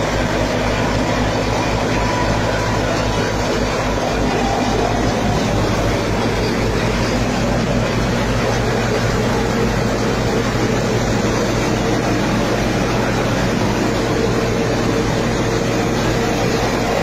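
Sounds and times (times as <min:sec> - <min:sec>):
thresher running: 0:00.0 - 0:17.0.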